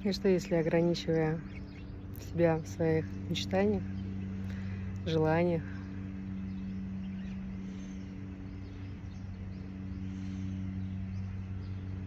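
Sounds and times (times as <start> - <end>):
low hum of held tones: 0.0 - 12.0.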